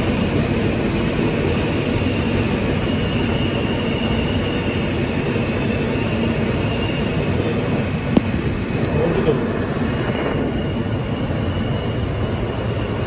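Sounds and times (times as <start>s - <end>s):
faint high whine: 0.0s - 13.0s
subway car wheels rumbling on rail: 0.0s - 13.0s.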